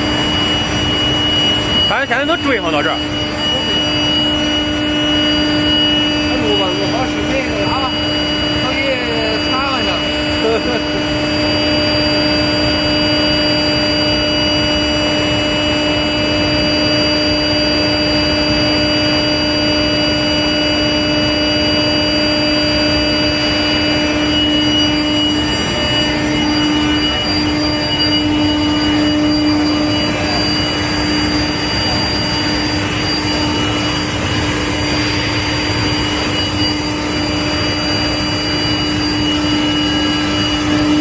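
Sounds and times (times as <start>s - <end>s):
electrical hum with whining tones: 0.0s - 41.0s
machinery noise: 0.0s - 41.0s.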